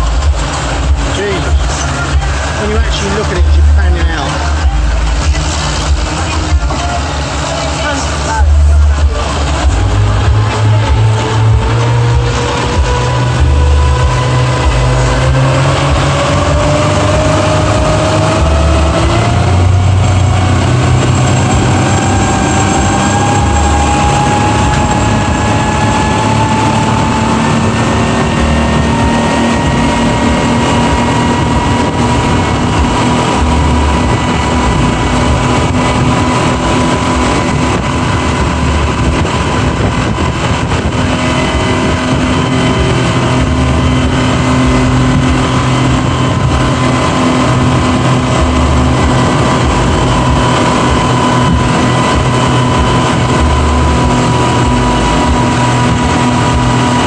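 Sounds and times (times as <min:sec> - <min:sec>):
outboard motor whine: 0:00.0 - 0:57.0
water rushing: 0:00.0 - 0:57.0.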